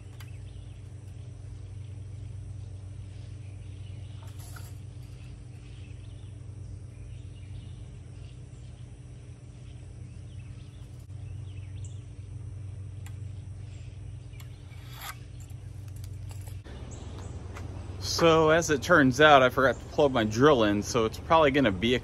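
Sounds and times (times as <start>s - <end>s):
birds chirping: 0.0s - 22.0s
low mechanical hum: 0.0s - 22.0s.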